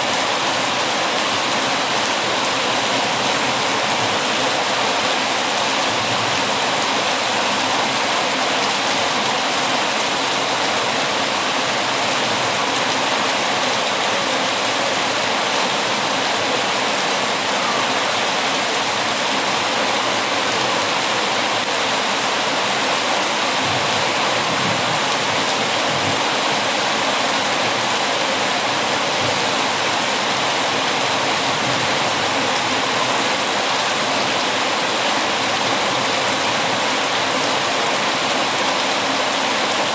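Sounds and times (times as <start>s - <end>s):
heavy rain on windows: 0.0s - 39.9s.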